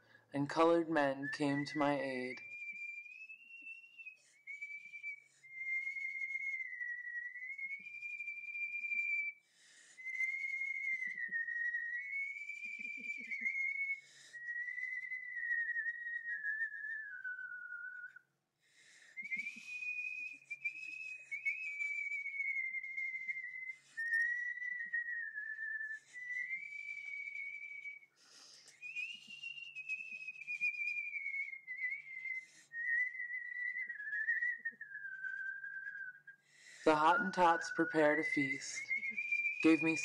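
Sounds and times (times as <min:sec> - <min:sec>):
person whistling a tune: 0:00.0 - 0:40.0.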